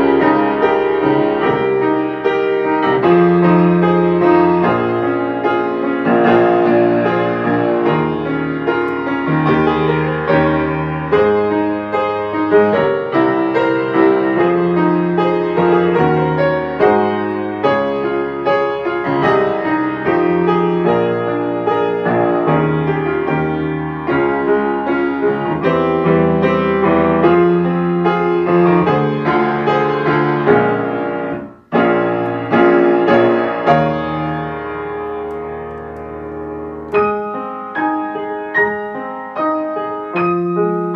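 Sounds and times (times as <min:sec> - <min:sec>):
solo piano accompaniment: 0:00.0 - 0:40.9.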